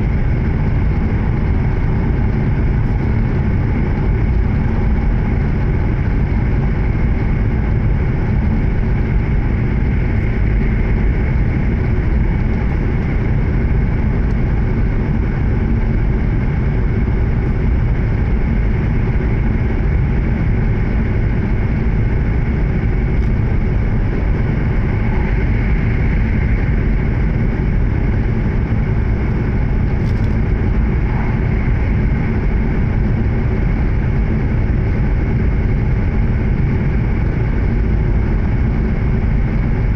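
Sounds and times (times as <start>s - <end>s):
wheels rumbling on rails: 0.0s - 39.9s.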